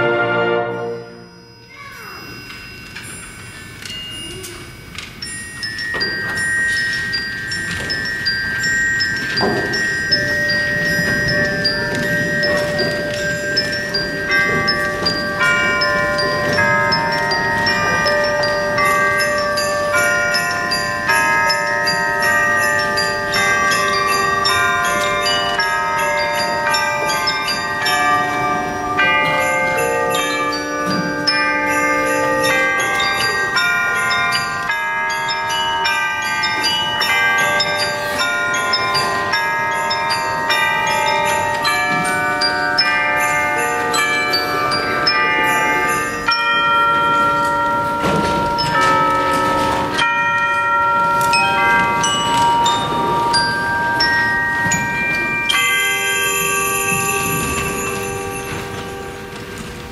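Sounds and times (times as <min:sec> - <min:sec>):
bells and mallet percussion carols: 0:00.0 - 0:59.9.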